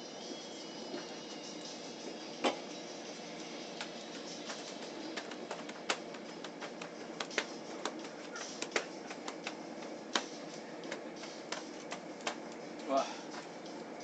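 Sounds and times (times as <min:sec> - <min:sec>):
train carriage running noise: 0:00.0 - 0:14.0.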